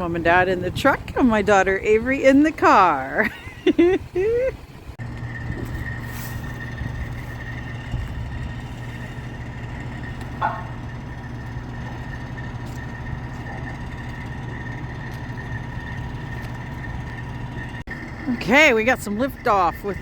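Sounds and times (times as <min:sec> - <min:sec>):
heavy vehicle engine humming: 0:00.0 - 0:20.0.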